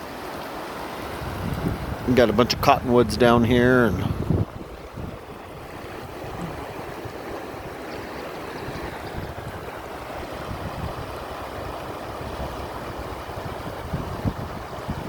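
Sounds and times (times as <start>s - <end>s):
river water rushing: 0.0s - 15.0s
wind buffeting microphone: 1.0s - 15.0s.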